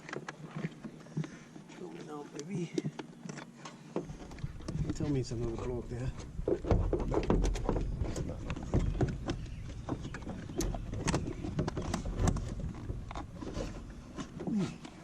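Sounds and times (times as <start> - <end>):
hard plastic clicking and scraping: 2.3 - 15.0.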